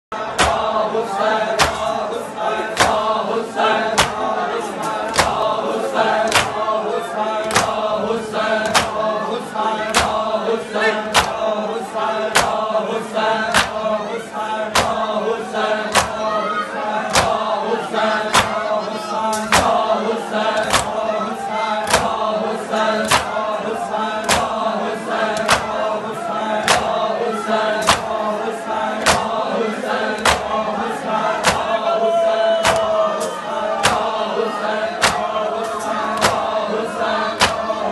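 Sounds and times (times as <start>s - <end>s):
men chanting together: 0.1s - 37.9s
hands slapping chests in unison: 0.3s - 9.2s, 9.8s - 10.4s, 11.0s - 11.6s, 12.2s - 14.0s, 14.7s - 16.4s, 17.0s - 17.6s, 18.2s - 31.9s, 32.5s - 37.9s.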